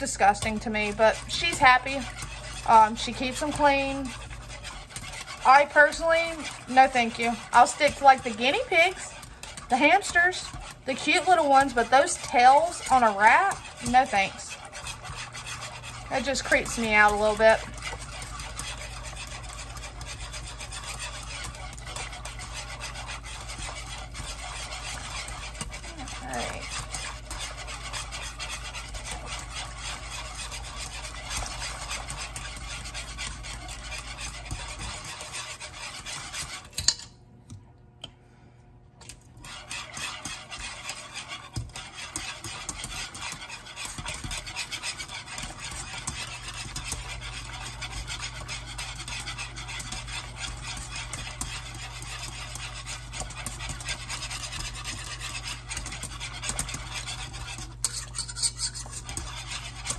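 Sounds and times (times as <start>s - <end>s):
wire whisk scraping metal pot: 0.0s - 37.1s, 39.3s - 59.9s.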